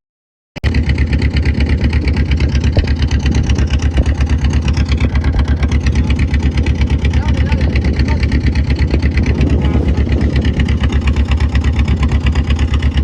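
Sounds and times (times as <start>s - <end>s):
boat engine running: 0.6s - 13.0s.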